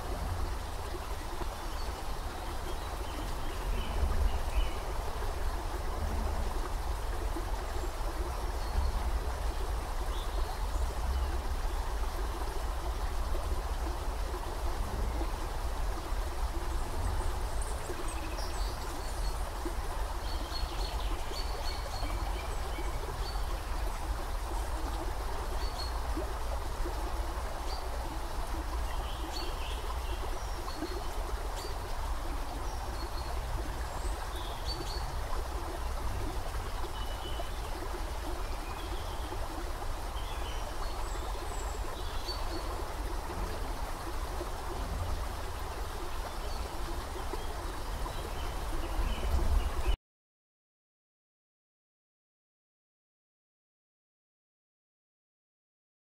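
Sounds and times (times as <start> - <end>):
stream trickling: 0.0 - 50.0.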